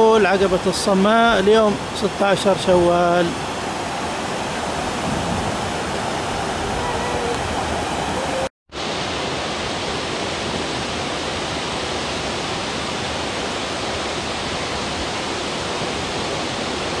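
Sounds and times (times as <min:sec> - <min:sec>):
water rushing over stones: 0:00.0 - 0:17.0.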